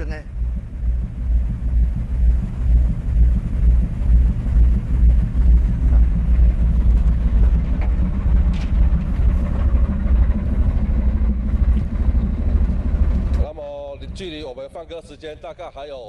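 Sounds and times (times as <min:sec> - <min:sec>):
ship rumbling at sea: 0:00.0 - 0:16.0.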